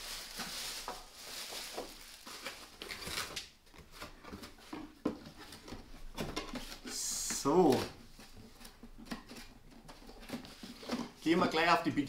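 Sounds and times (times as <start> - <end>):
rustling handling noise: 0.0 - 12.0.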